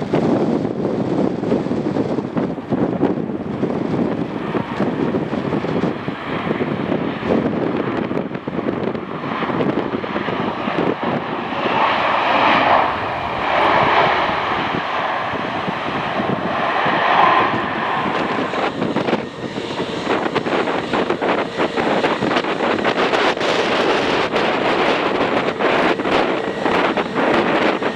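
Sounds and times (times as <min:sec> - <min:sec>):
airliner engines passing: 0:00.0 - 0:27.9
wind buffeting microphone: 0:00.0 - 0:27.9.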